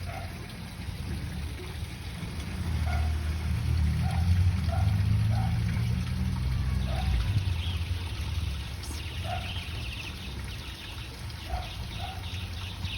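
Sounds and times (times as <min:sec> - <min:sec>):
water trickling: 0:00.0 - 0:12.9.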